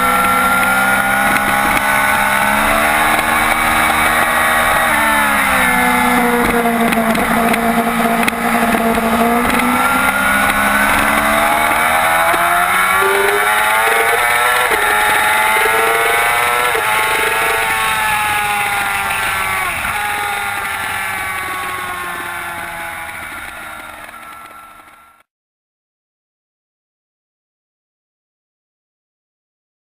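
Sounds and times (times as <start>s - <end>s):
motorcycle engine revving: 0.0s - 25.3s.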